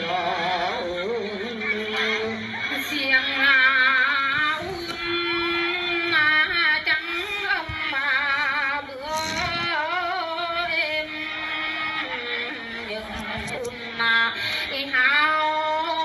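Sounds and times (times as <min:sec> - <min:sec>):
high voice singing with vibrato: 0:00.0 - 0:16.0.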